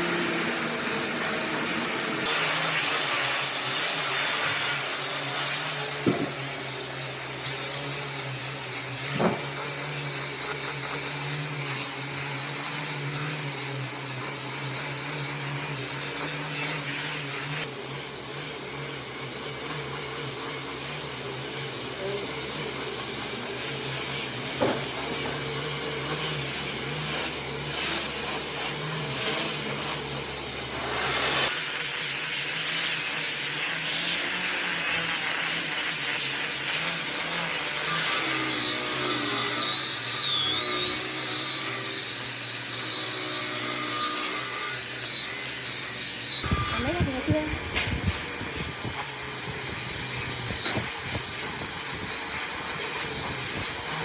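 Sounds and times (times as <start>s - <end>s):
power tool whining on wood: 0.0s - 54.0s.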